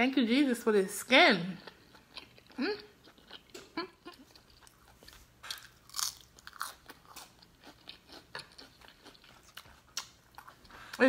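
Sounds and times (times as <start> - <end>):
person chewing and crunching food: 1.6 - 11.0.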